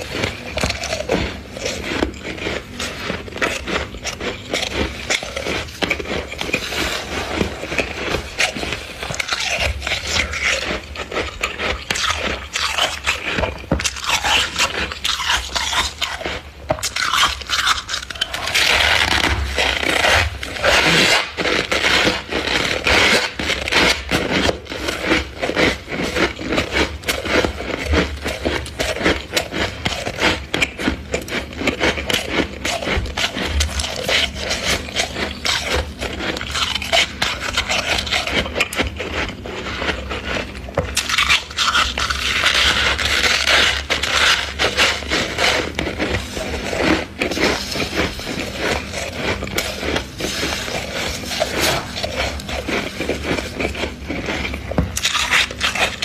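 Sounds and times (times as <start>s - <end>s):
freezer frost scraping: 0.0s - 56.0s.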